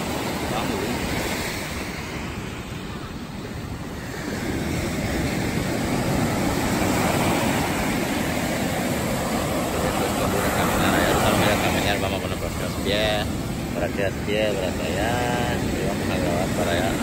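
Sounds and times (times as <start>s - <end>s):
ocean surf breaking: 0.0s - 17.0s
wind rumble on microphone: 0.0s - 17.0s.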